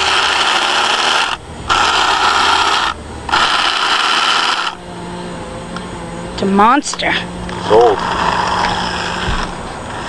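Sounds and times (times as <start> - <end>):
toy car electric motor whirring: 0.0 - 10.0.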